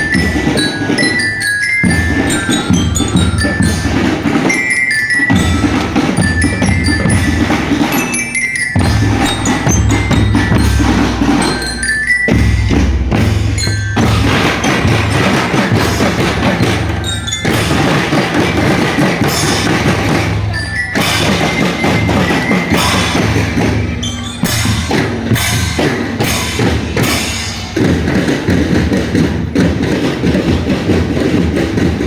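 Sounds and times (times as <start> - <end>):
bass and snare drums beating: 0.0 - 8.2, 8.8 - 32.0
bell-lyre notes ringing: 0.0 - 28.1.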